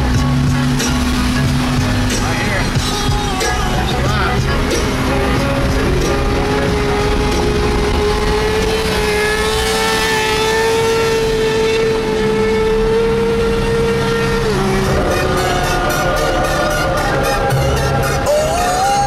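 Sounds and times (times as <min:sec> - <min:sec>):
motorcycle engine revving high: 0:00.0 - 0:19.0.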